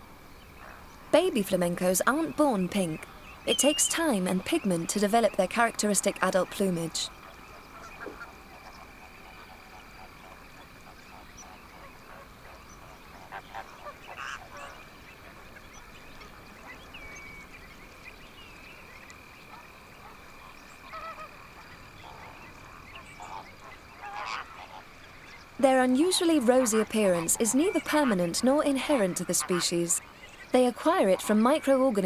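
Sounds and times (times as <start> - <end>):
flamingos honking: 0.6 - 17.2, 19.4 - 32.0.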